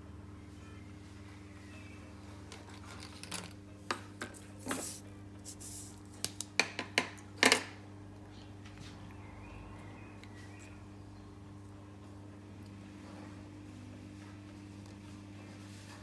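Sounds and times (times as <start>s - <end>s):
steady low hum: 0.0s - 6.3s, 7.2s - 16.0s.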